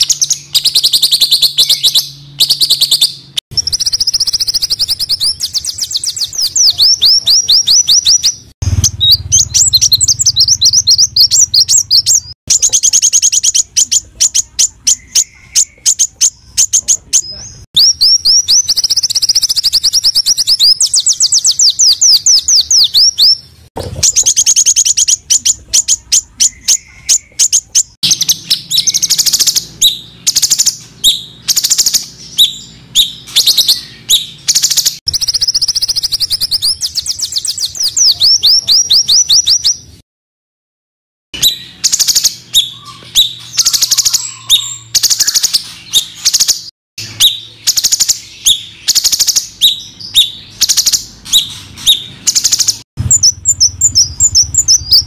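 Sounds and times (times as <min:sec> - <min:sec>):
songbirds singing fast trills: 0:00.0 - 0:40.0, 0:41.4 - 0:55.0.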